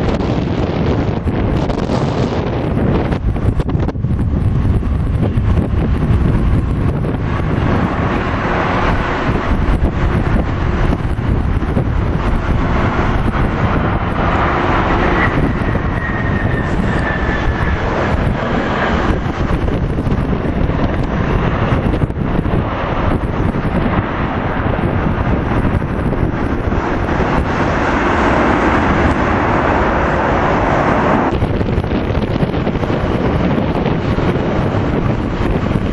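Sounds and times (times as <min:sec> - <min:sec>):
high jet whine: 0:00.0 - 0:35.9
jet airliner rumble: 0:00.0 - 0:35.9
wind buffeting microphone: 0:00.0 - 0:35.9.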